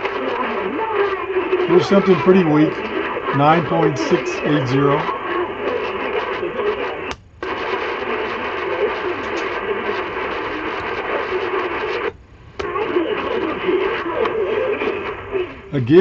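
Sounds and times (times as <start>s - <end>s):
faint radio programme audio: 0.0s - 16.0s
radio static and hiss: 0.0s - 16.0s.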